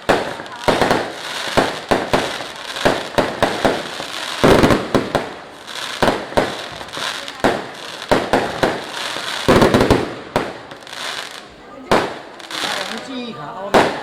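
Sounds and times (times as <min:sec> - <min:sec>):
fireworks banging and crackling: 0:00.0 - 0:14.0.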